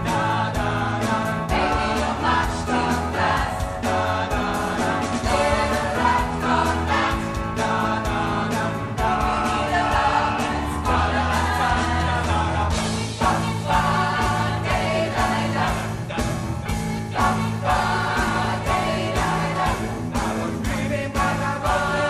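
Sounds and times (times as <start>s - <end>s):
choir singing in harmony: 0.0s - 22.0s
keyboard bass and drums: 0.0s - 22.0s.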